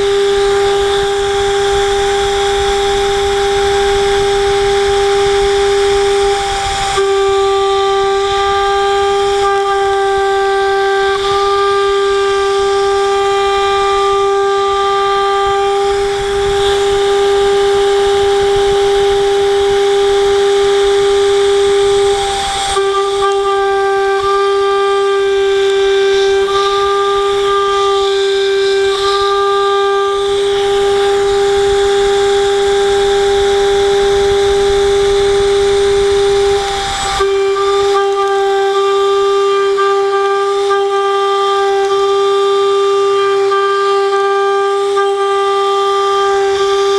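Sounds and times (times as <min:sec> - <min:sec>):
coolant nozzles hissing: 0:00.0 - 0:46.9
router spindle milling whine: 0:00.0 - 0:46.9.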